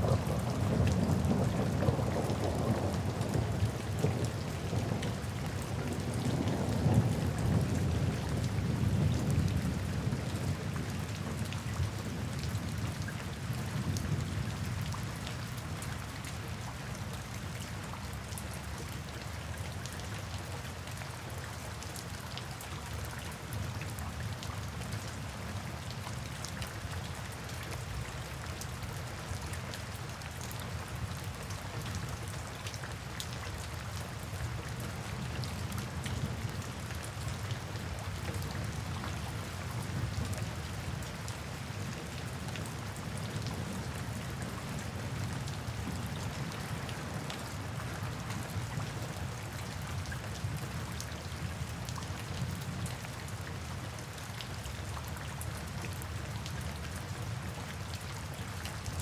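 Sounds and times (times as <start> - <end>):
low rain rumble: 0.0 - 59.0
raindrops ticking on surfaces: 0.0 - 59.0.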